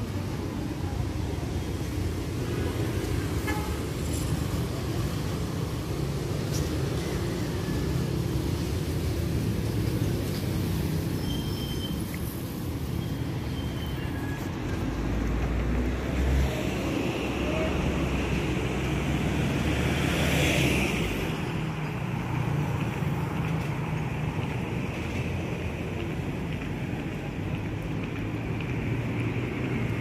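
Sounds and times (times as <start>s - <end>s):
traffic engines rumbling: 0.0s - 30.0s.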